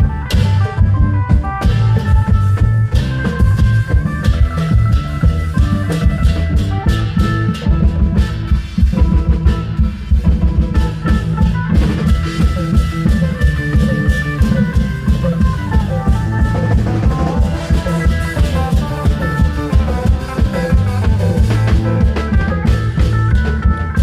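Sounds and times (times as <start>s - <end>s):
long drums drumming: 0.0s - 24.0s
melody of held notes: 0.0s - 24.0s.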